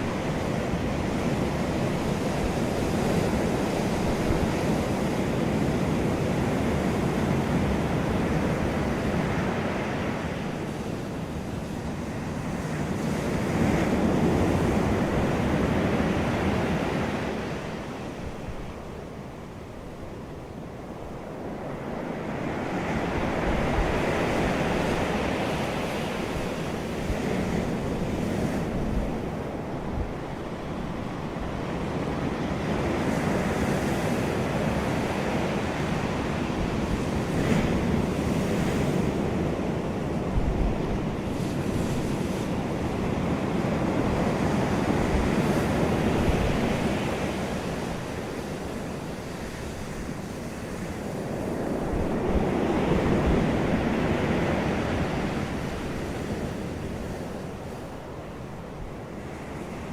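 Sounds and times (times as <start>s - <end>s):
ocean waves breaking ashore: 0.0s - 59.9s.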